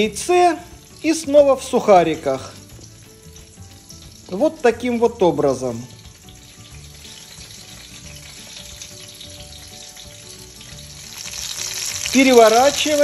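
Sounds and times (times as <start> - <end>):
nuggets sizzling in oil: 0.0 - 13.0.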